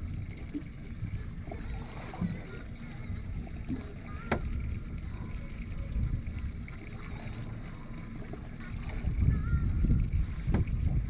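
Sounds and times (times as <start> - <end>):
water washing around boat: 0.0 - 11.0
wind: 0.0 - 11.0.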